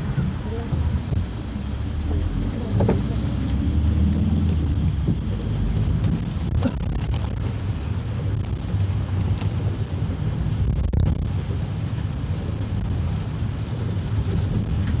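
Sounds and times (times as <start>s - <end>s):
rain and wet-road hiss: 0.0s - 15.0s
vehicle engine and road rumble: 0.0s - 15.0s.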